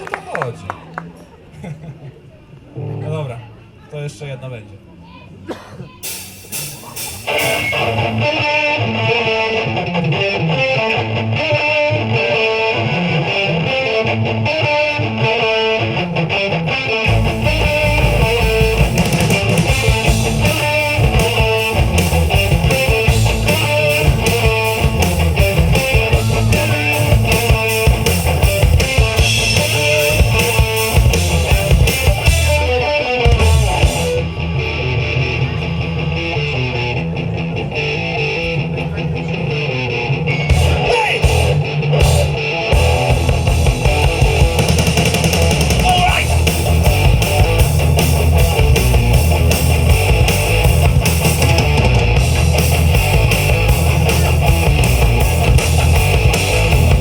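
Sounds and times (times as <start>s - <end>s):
bass guitar: 2.7s - 3.2s, 6.0s - 57.0s
drums: 5.5s - 57.0s
electric guitar riff: 6.0s - 57.0s.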